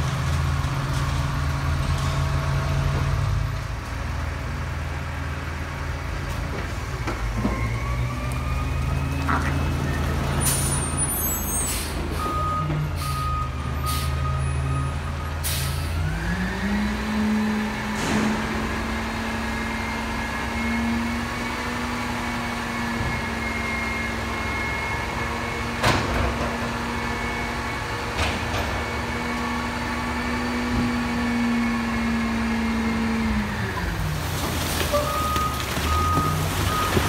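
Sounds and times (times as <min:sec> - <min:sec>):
truck engine and hydraulic hoist revving: 0:00.0 - 0:37.0.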